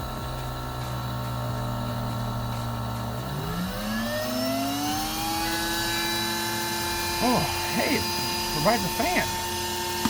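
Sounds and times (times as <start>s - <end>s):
vacuum motor whining: 0.0s - 10.0s.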